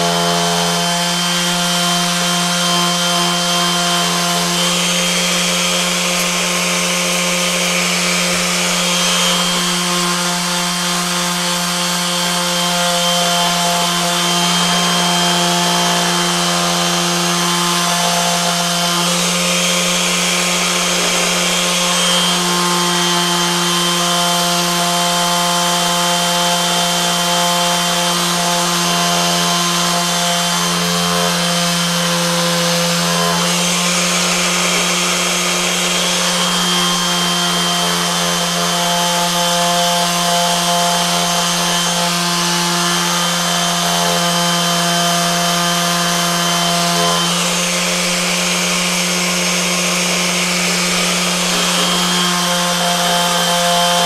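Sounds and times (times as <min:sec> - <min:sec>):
orbital sander humming: 0:00.0 - 0:54.0.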